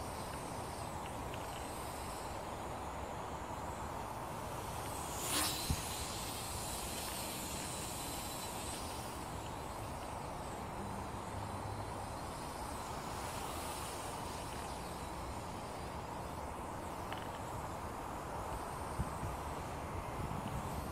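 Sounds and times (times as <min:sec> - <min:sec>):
toy quadcopter propellers whirring: 0:00.0 - 0:20.9.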